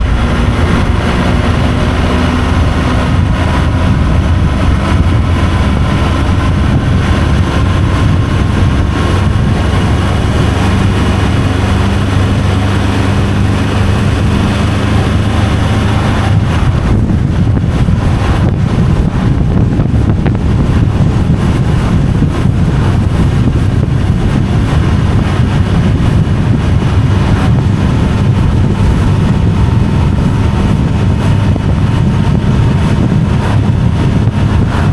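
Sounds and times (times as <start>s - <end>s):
vehicle engine drone: 0.0s - 34.9s
wind and road noise: 0.0s - 34.9s.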